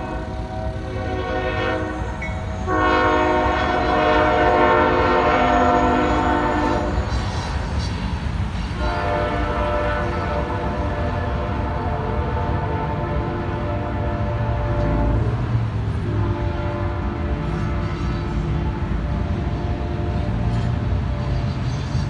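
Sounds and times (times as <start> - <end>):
train air horn blasts: 0.0 - 8.0, 8.6 - 22.0.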